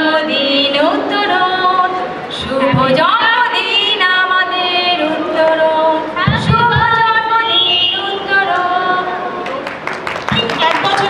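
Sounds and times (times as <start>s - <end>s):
women singing together: 0.0s - 9.6s.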